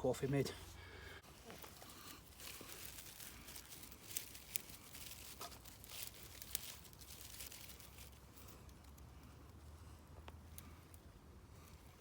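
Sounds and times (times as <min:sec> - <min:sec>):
faint rustling and crinkling: 0:00.1 - 0:12.0.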